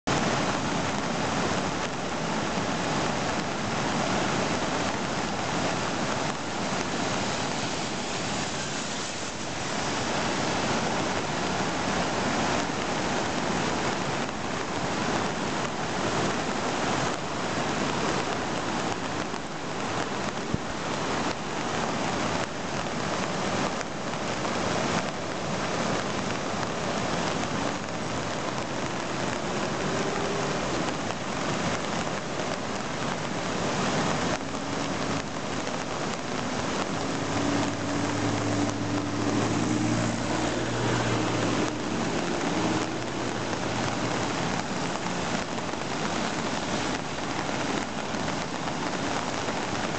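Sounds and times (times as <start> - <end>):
floodwater rushing through dam gates: 0.1 - 49.9.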